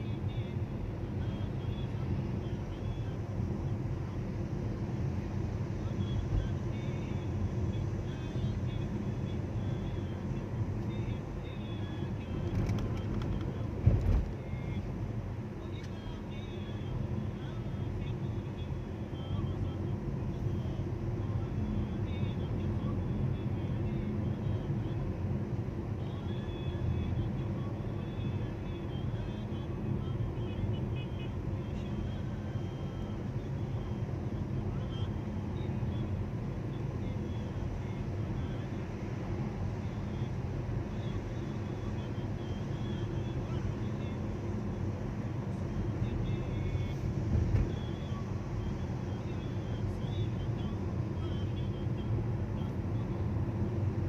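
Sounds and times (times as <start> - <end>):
low rumble of traffic: 0.0 - 54.0.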